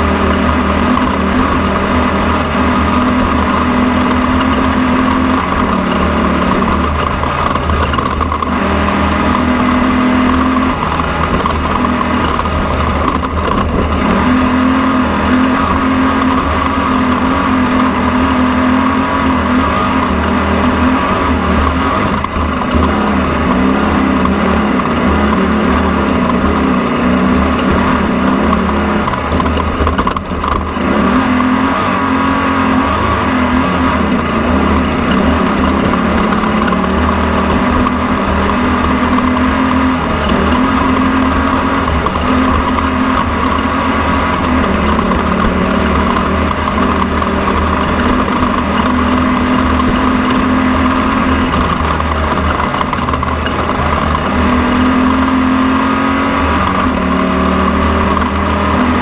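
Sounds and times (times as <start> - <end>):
engine droning: 0.0 - 59.0.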